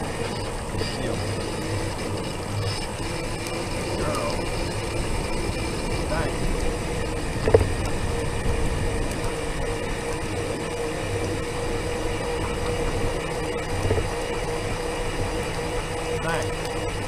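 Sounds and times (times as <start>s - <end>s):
scooter motor whine: 0.0s - 17.0s
tyres rolling on pavement: 0.0s - 17.0s.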